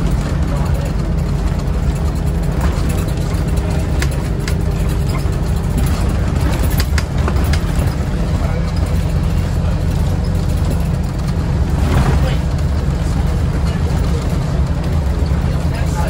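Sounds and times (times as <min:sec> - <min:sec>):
bus engine droning: 0:00.0 - 0:16.0
interior fittings rattling: 0:00.0 - 0:16.0
road noise: 0:00.0 - 0:16.0.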